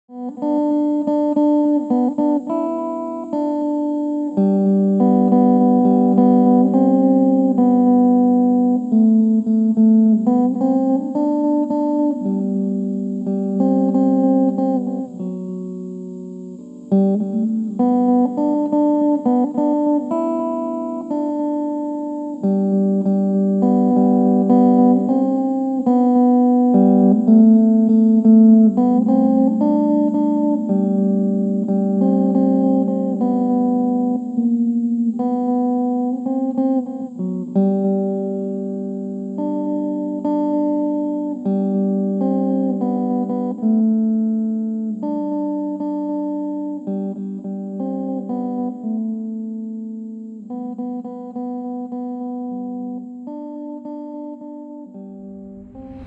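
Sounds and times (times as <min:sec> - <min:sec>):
instrumental music with plucked notes: 0:00.1 - 0:56.0.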